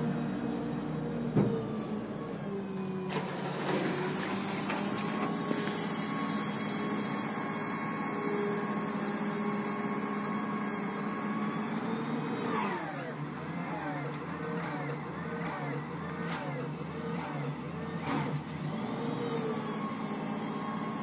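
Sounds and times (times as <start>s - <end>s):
hydraulic whine: 0.0s - 21.0s.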